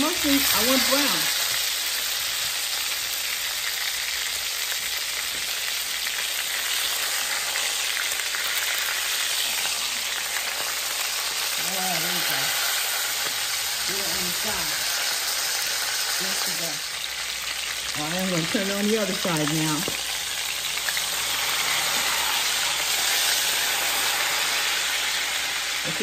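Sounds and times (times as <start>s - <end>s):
meat sizzling in butter: 0.0s - 26.0s.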